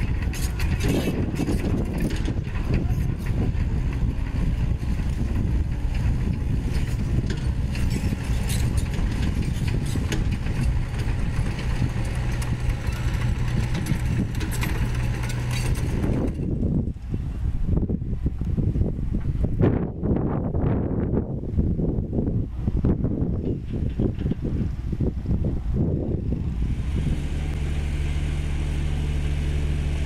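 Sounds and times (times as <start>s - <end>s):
excavator diesel engine running: 0.0s - 17.7s, 23.4s - 30.0s.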